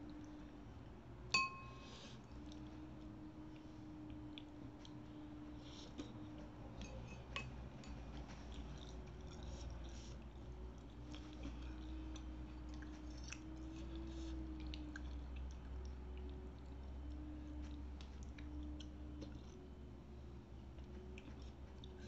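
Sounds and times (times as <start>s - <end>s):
faint steady hum: 0.0s - 22.0s
person chewing: 1.9s - 19.8s, 20.8s - 22.0s.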